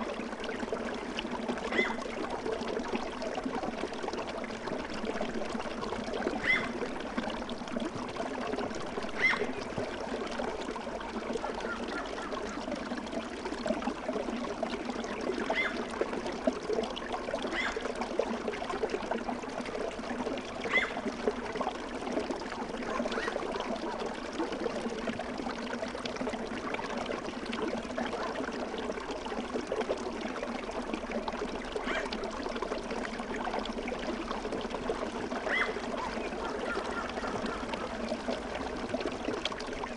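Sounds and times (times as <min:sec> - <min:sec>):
high water plinks: 0:00.0 - 0:39.9
water trickling: 0:00.0 - 0:39.9.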